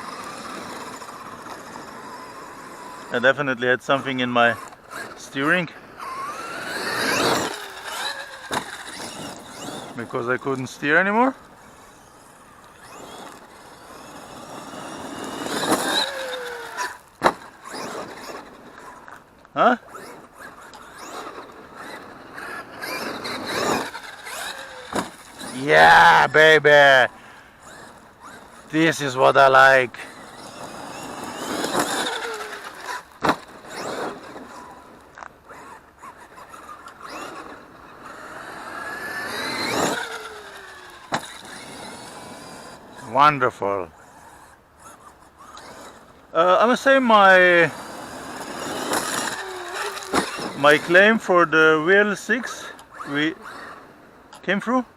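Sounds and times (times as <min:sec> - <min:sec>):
toy truck motor whine: 0:00.0 - 0:54.8.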